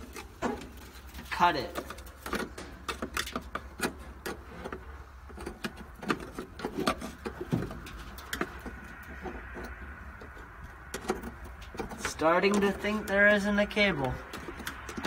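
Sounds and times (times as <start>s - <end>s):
metal parts clicking and rattling: 0.0s - 15.0s.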